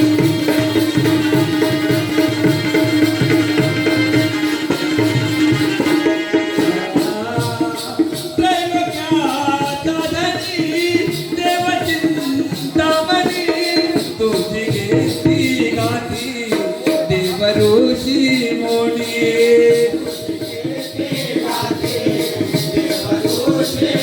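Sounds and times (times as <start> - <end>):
jingling percussion beat: 0.0 - 24.0.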